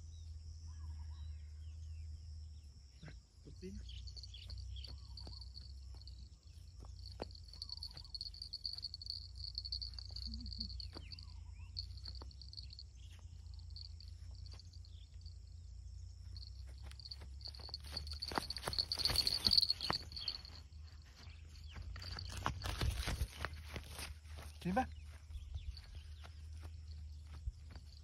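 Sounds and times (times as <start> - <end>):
insects chirring: 2.4 - 28.0
footsteps on dry stubble: 4.1 - 15.2, 16.3 - 28.0.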